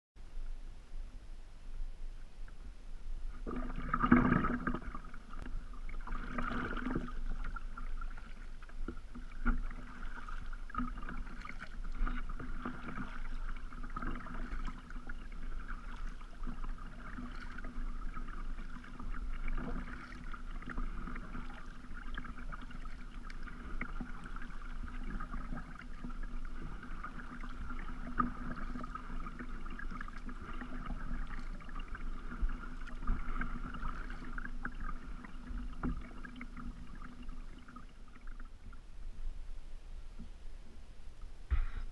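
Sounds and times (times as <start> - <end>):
water moving along hull: 0.2 - 41.9
paddle dipping in water: 2.3 - 39.4, 41.5 - 41.9.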